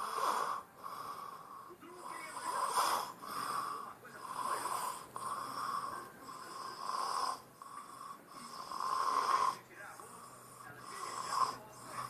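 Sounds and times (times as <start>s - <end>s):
child snoring loudly: 0.0s - 9.6s, 10.2s - 12.0s.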